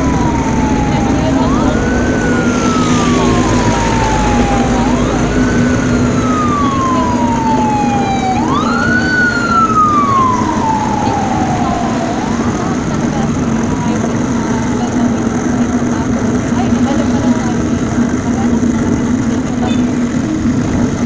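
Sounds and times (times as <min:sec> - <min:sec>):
low hum of street noise: 0:00.0 - 0:21.0
wailing siren: 0:00.0 - 0:21.0.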